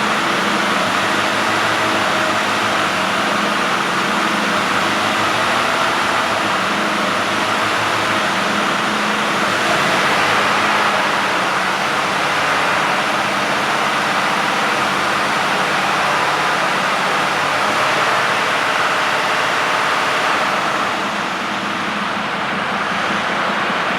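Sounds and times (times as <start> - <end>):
truck diesel engine idling: 0.0 - 23.9.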